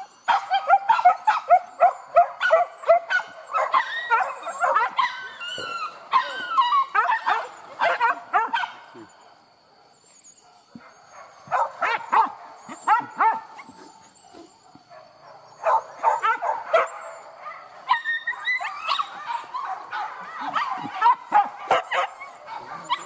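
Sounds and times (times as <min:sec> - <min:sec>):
dogs yelping and whining: 0:00.0 - 0:09.4, 0:10.0 - 0:23.0.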